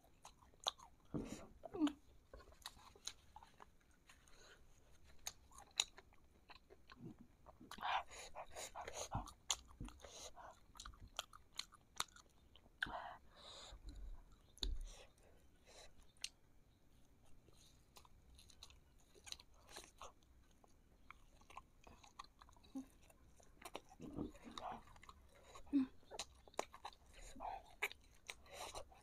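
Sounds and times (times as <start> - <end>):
close-up chewing with mouth clicks: 0.0 - 29.0.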